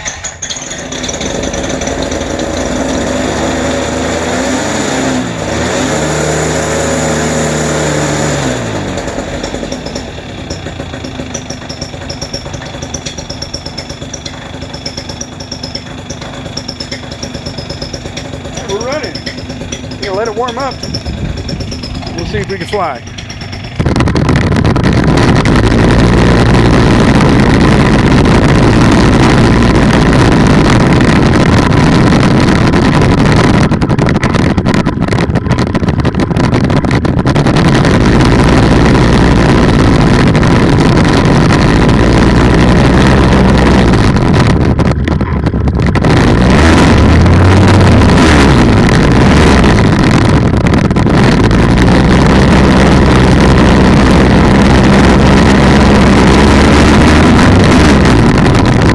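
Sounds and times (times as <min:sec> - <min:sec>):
two-stroke engine running: 0:00.0 - 0:58.9.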